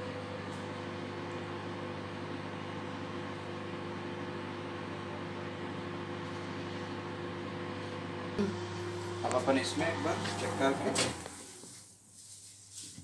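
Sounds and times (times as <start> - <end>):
microwave oven humming: 0.0 - 11.7.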